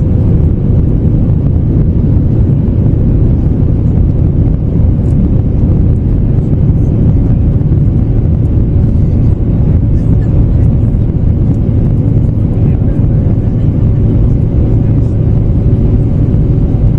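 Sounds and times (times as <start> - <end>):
airplane cabin rumble: 0.0 - 16.9.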